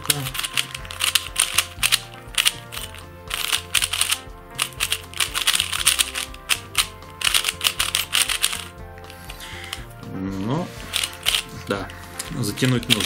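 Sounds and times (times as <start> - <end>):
speed cube plastic clicking: 0.0 - 9.9, 10.9 - 11.5, 12.2 - 13.0
background music: 0.0 - 13.0.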